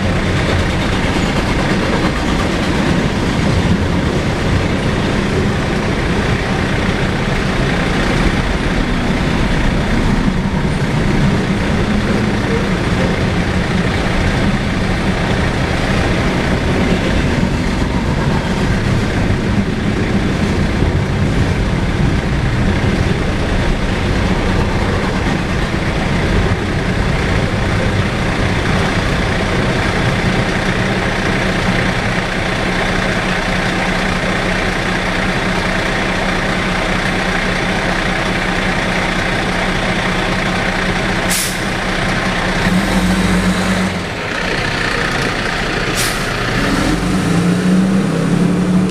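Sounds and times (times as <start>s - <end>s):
freight train cars rolling: 0.0s - 48.9s
truck engine humming: 0.0s - 48.9s.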